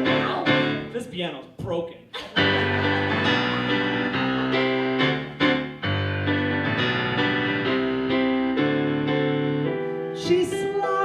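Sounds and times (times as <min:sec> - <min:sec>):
piano playing sustained chords: 0:00.0 - 0:01.0, 0:02.4 - 0:11.0.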